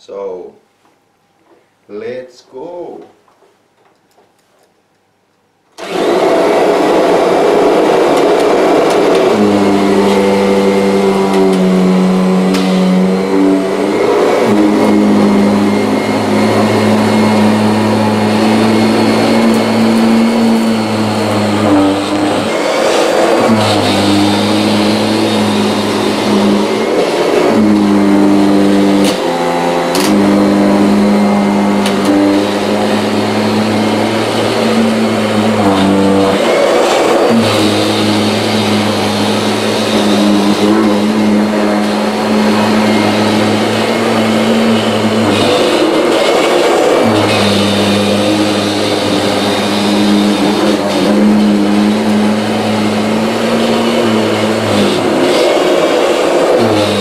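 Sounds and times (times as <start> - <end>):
vacuum cleaner motor hum: 5.8 - 57.0.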